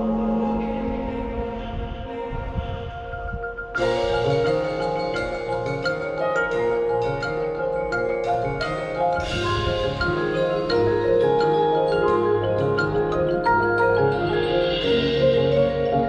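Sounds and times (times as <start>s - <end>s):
marimba and vibraphone notes: 0.0s - 16.0s.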